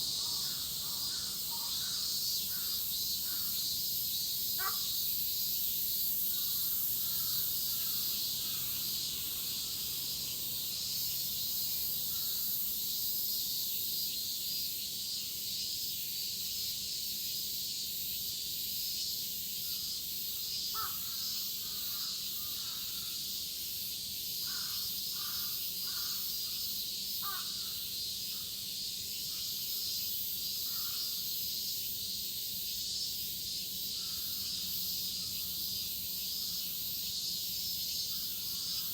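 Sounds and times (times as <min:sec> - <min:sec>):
cicada chorus buzzing: 0:00.0 - 0:38.9.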